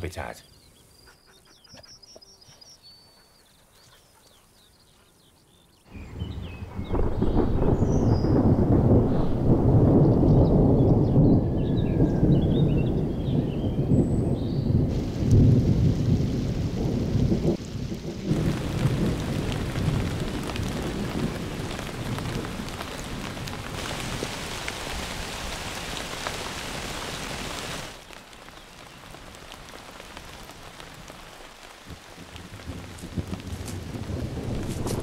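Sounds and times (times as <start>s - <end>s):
rain: 5.8s - 35.0s
thunder rumbling: 5.9s - 28.1s, 29.1s - 35.0s.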